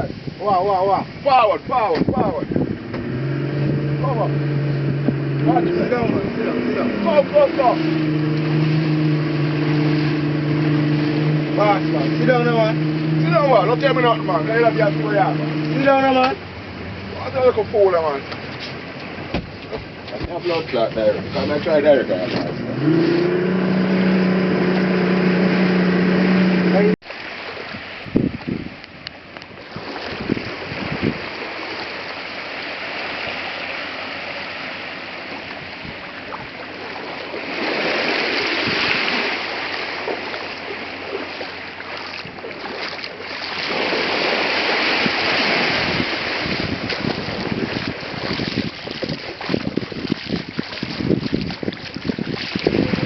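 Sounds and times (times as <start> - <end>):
hull slapping waves: 0.0 - 53.0
wind and water rushing: 0.0 - 53.0.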